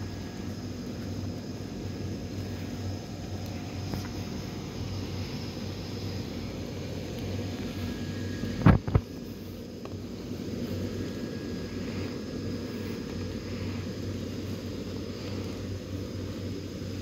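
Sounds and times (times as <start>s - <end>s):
blower fans droning: 0.0s - 17.0s.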